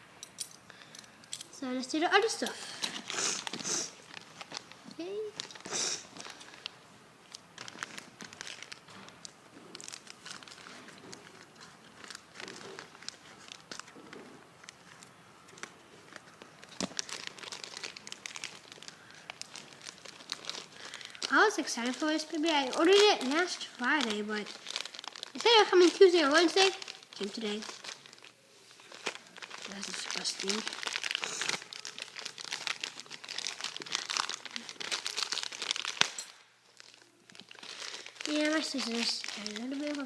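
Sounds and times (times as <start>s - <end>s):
plastic packaging crinkling: 2.6s - 40.0s.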